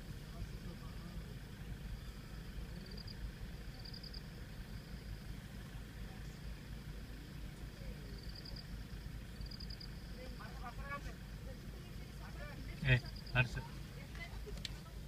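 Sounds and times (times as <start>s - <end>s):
jeep engine idling: 0.0s - 15.0s.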